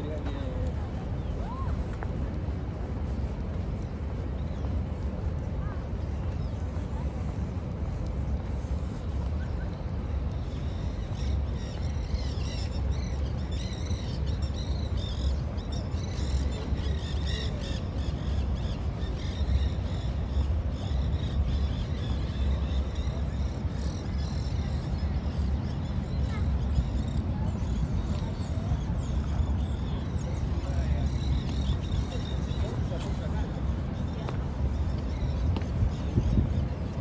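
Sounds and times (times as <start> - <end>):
low city rumble: 0.0 - 37.0.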